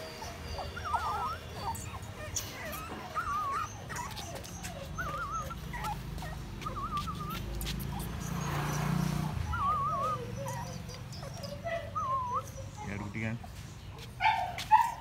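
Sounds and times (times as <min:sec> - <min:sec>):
puppies squealing: 0:00.0 - 0:15.0.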